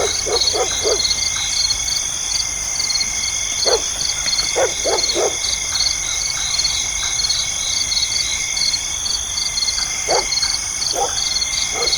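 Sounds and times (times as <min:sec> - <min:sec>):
crickets chirping: 0:00.0 - 0:11.9
lower insect call: 0:00.0 - 0:11.9.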